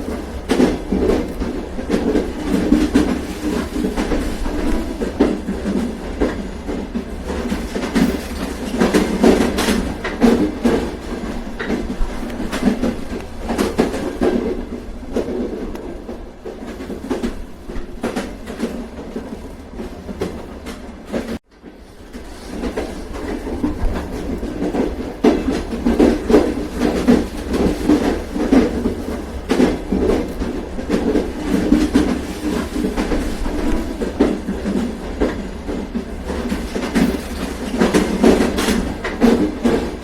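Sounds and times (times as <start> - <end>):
train rumbling on rails: 0.0 - 40.0
wheels clacking over rail joints: 0.0 - 40.0.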